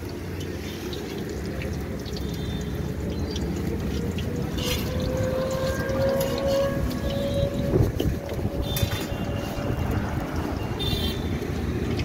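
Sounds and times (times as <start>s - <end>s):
oil sizzling and crackling: 0.0s - 12.0s.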